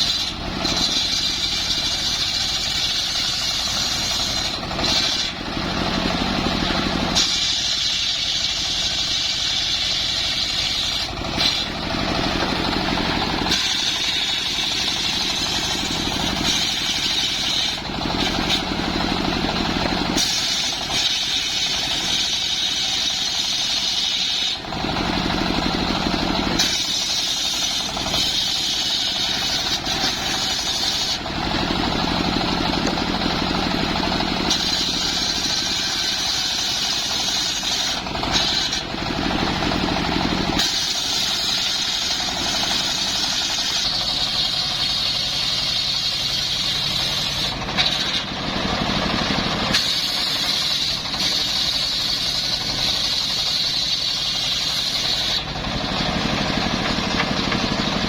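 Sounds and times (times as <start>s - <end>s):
engine-driven wood saw running: 0.0s - 58.0s.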